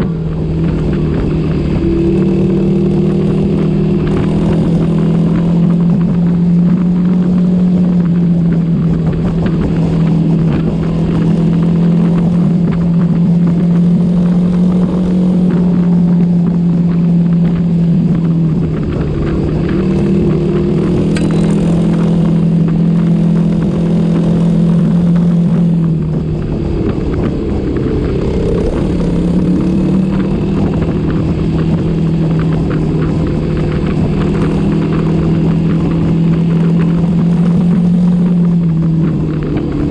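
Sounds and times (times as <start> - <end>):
low wind rumble: 0.0 - 39.9
small motorcycle engine running: 7.8 - 39.9.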